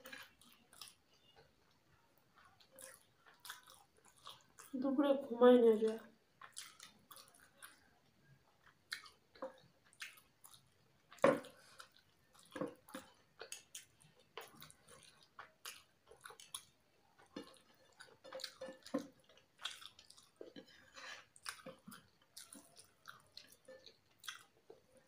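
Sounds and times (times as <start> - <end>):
wet chewing smacks and clicks: 0.0 - 4.8, 6.4 - 25.0.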